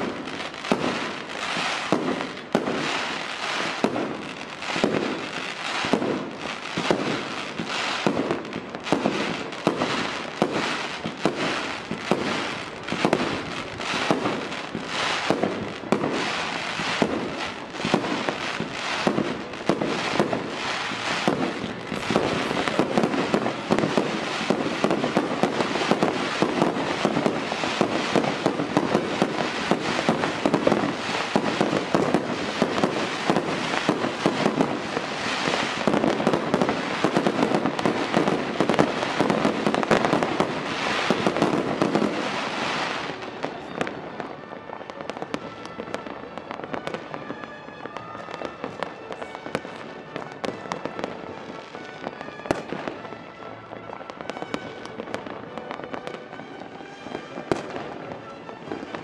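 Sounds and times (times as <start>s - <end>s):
fireworks and firecrackers crackling: 0.0s - 59.0s.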